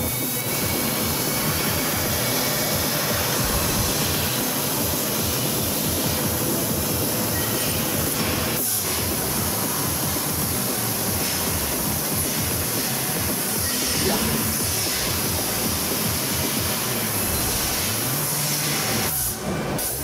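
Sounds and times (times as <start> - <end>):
laser cutter hissing through metal: 0.0 - 20.0.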